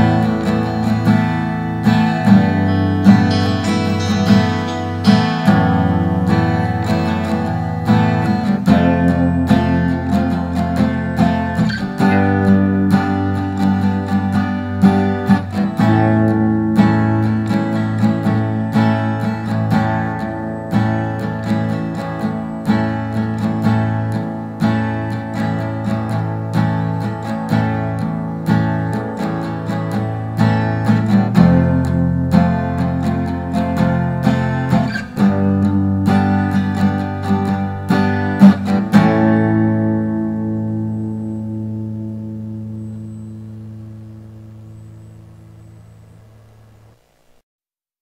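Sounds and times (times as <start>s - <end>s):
acoustic guitar strumming chords: 0.0s - 47.4s.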